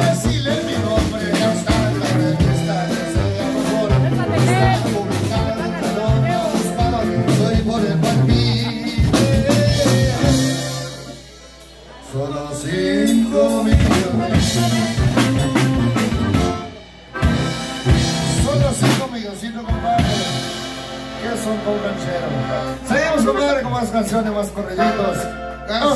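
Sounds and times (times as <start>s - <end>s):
button accordion: 0.0s - 12.0s, 12.9s - 19.0s, 19.7s - 25.9s
drum kit: 0.0s - 23.4s
guitar: 0.0s - 25.9s
live band playing: 0.0s - 25.9s
tuba bass: 0.0s - 25.9s.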